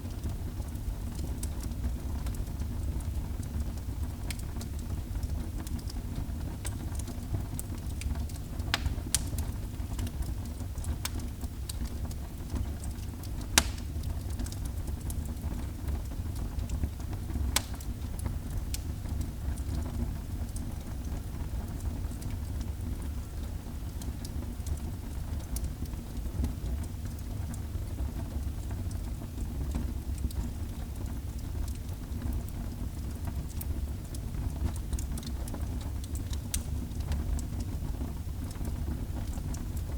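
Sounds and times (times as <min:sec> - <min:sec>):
fire crackles and pops: 0:00.0 - 0:39.9
low rumble of fire: 0:00.0 - 0:39.9.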